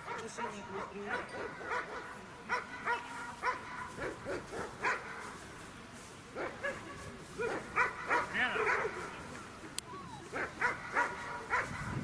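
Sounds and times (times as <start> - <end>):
dog barking: 0.0 - 5.2, 6.4 - 9.1, 10.3 - 12.0.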